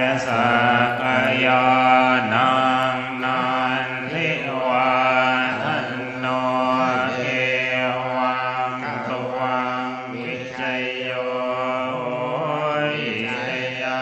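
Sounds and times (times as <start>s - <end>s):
monks chanting in unison: 0.0s - 14.0s.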